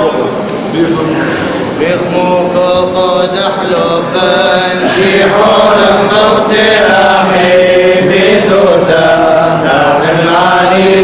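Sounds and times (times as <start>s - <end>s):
voices singing a chant: 1.7s - 11.0s.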